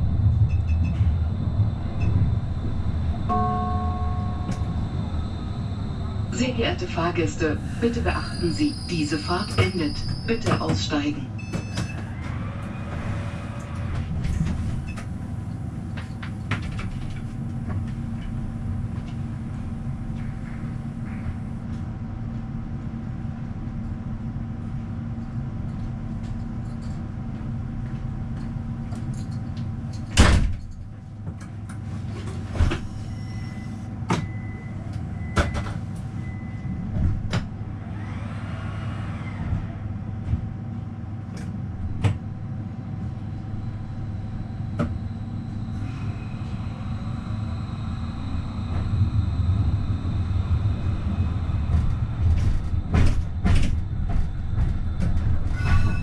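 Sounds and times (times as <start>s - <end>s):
tram humming: 0.0s - 30.1s, 30.8s - 56.0s.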